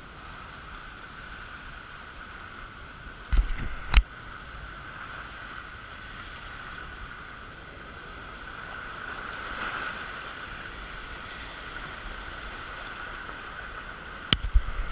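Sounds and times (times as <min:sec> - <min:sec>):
water rushing down raft slide: 0:00.0 - 0:14.9.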